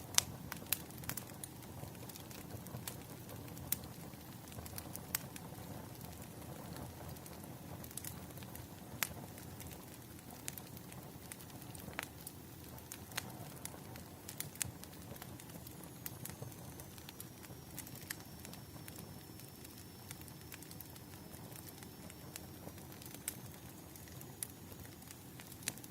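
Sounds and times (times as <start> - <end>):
rustle of burning logs: 0.0 - 25.9
wood fire popping and snapping: 0.0 - 25.9.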